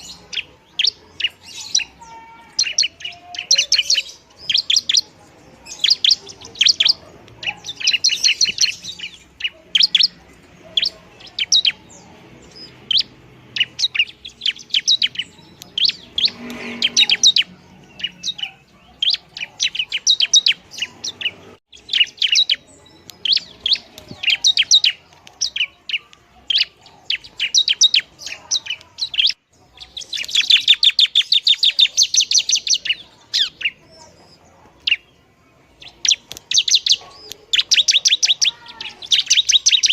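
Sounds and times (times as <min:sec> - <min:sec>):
bird calling with sharp high chips: 0:00.0 - 0:39.9.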